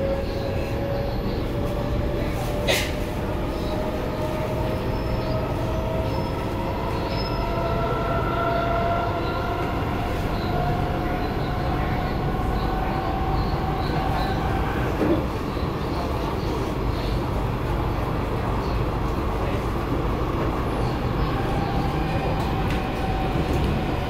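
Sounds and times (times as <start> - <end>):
wheels rumbling on rail: 0.0 - 24.0.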